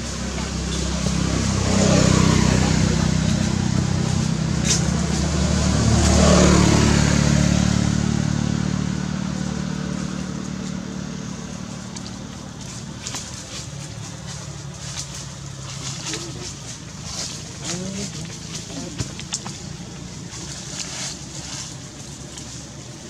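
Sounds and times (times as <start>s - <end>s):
engine passing by: 0.0s - 23.0s.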